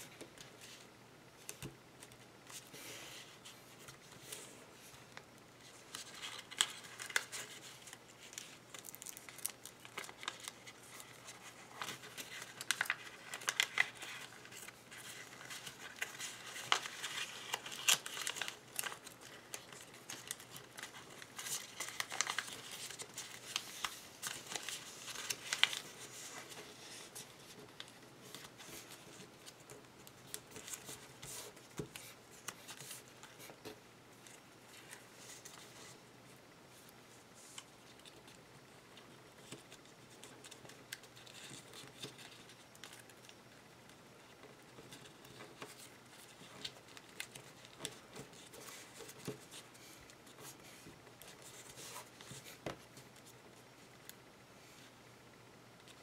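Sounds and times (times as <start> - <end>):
paper crinkling and rustling: 0.0 - 36.0, 36.7 - 54.2.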